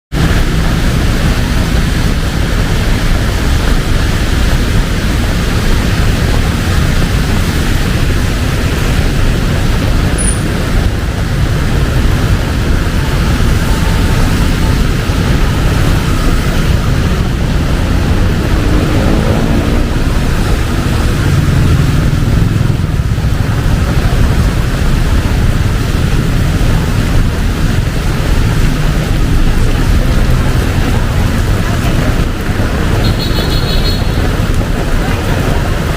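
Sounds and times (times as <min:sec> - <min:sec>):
heavy rain pouring: 0:00.1 - 0:35.9
street traffic rumble: 0:00.1 - 0:35.9
vehicle engine accelerating: 0:00.2 - 0:35.9.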